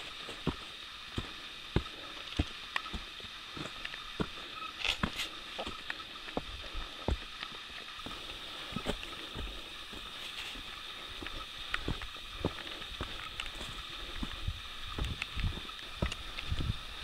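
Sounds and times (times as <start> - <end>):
footsteps on dirt trail: 0.0 - 17.0.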